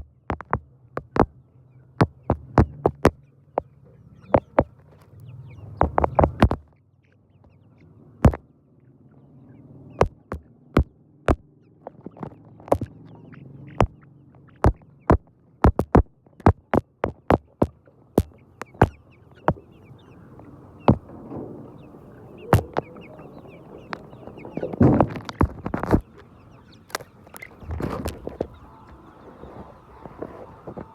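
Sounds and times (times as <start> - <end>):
chickens pecking on hard surface: 0.0 - 1.4, 2.0 - 6.7, 8.2 - 8.4, 10.0 - 30.9.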